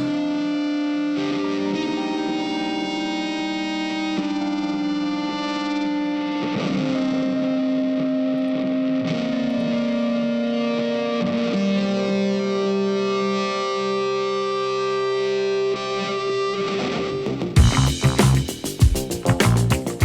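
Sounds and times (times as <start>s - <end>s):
distorted electric guitar notes: 0.0s - 20.0s.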